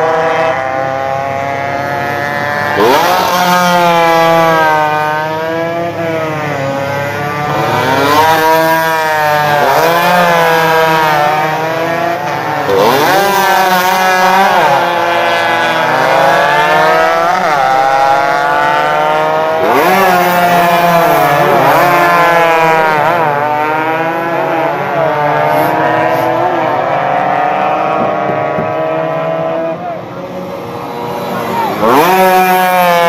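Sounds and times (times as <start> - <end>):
racing motorcycles at full throttle: 0.0 - 33.0.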